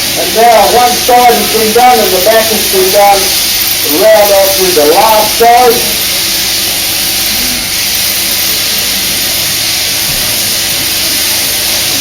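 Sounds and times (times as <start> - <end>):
shearing handpiece cutting wool: 0.0 - 12.0.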